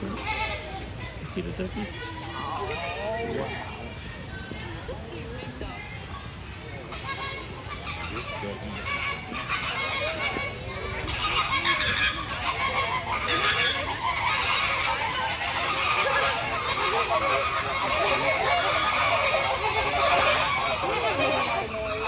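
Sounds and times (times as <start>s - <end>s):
water birds calling: 0.0s - 22.0s.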